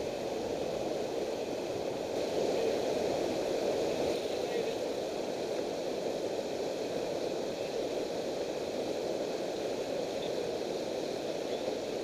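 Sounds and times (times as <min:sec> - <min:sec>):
river water rushing over dam: 0:00.0 - 0:12.0.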